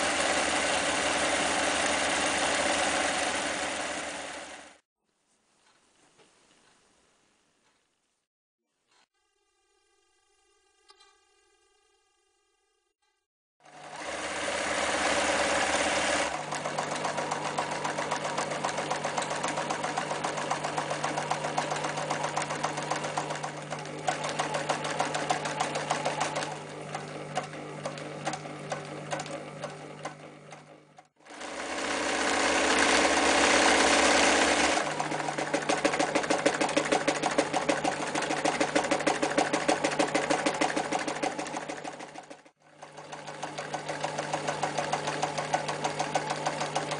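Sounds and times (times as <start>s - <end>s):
sewing machine stitching: 0.0s - 4.8s, 13.6s - 46.9s.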